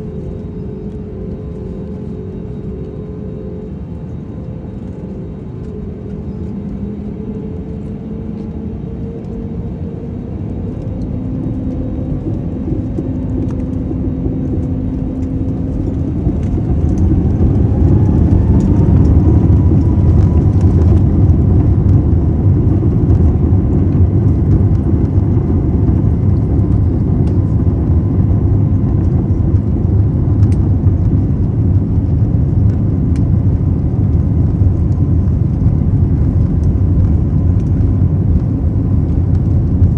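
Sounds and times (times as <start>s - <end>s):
jet engines spooling up: 0.0s - 34.2s.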